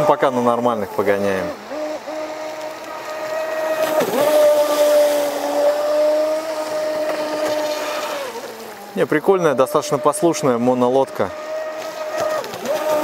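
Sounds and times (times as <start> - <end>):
electric boat motor whine: 0.0 - 13.0.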